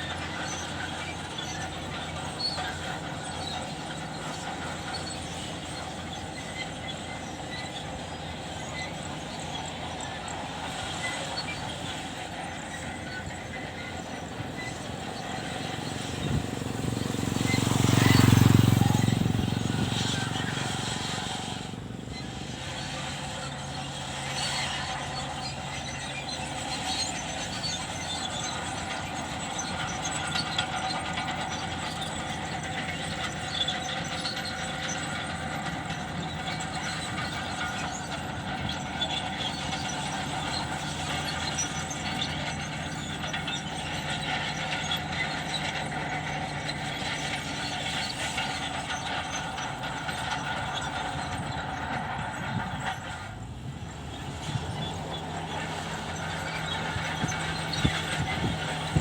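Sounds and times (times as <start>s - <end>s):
diesel engine running: 0.0s - 59.0s
metallic squealing and clanking: 0.0s - 59.0s.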